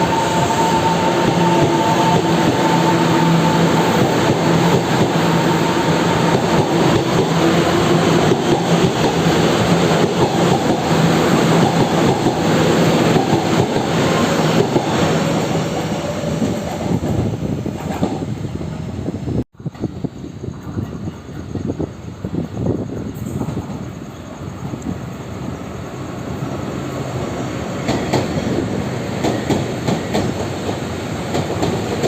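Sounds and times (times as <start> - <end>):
steel wheels rolling on rail: 0.0 - 32.0.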